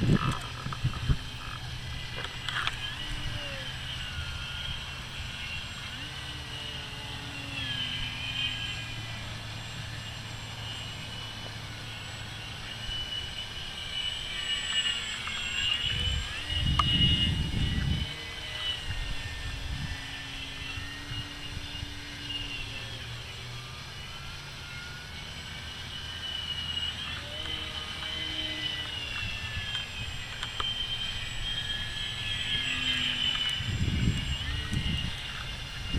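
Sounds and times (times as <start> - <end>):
model plane motor whining: 0.0 - 35.9.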